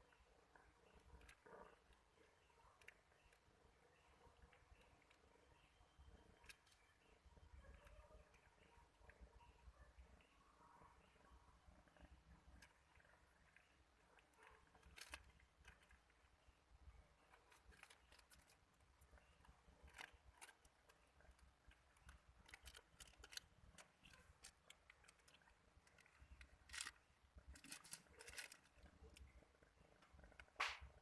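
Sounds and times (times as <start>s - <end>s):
faint scattered clicks and taps: 0.0s - 31.0s
low background noise: 0.0s - 31.0s.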